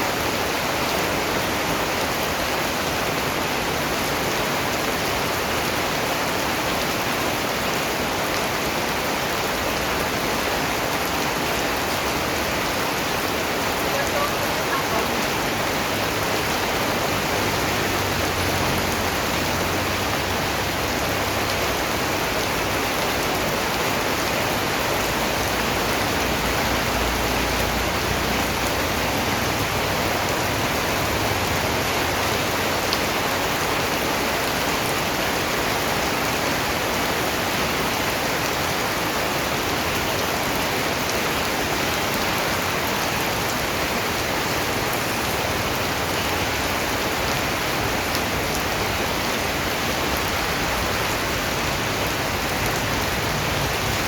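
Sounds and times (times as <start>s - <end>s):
steady rain hiss: 0.0s - 54.0s
raindrops pattering on surface: 0.3s - 54.0s.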